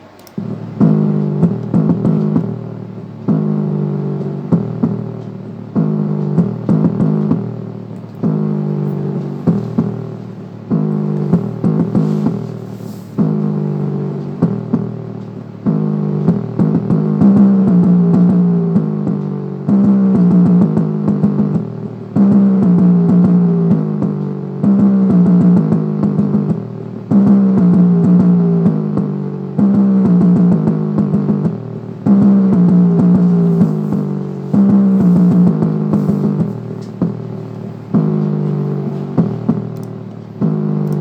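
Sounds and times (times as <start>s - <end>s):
beat-driven music through small speaker: 0.0s - 41.0s.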